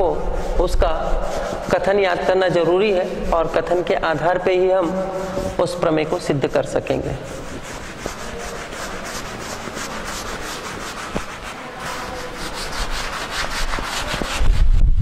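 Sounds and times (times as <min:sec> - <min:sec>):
duster wiping chalkboard: 0:00.0 - 0:14.8.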